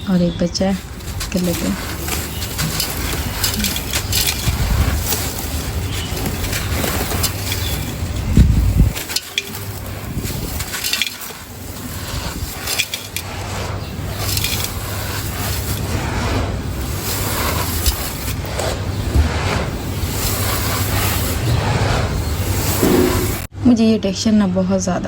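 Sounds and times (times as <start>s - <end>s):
dried concrete crumbling by hand: 0.0s - 23.5s.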